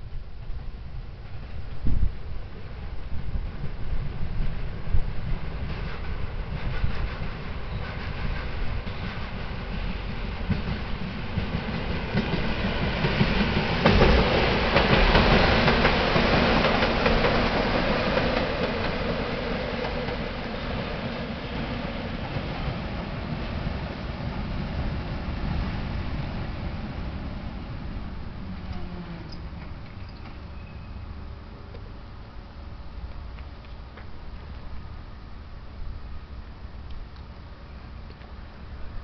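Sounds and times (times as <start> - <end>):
train rumbling on track: 0.0 - 39.0.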